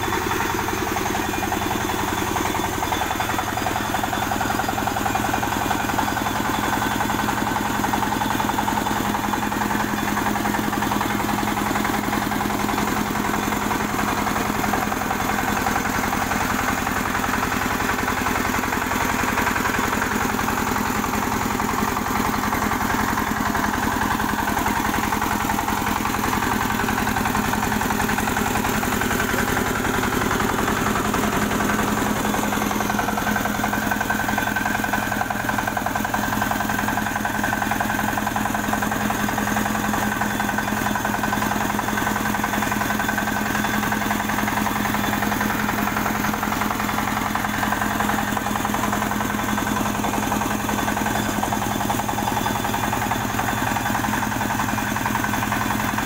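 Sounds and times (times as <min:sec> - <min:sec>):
harvester engine humming: 0:00.0 - 0:56.0.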